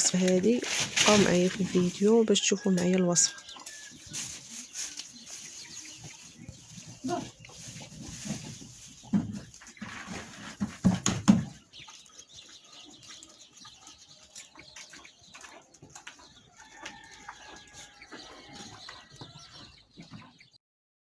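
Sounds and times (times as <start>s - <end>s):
chickens clucking: 0.0s - 20.6s
small birds chirping: 0.0s - 20.6s.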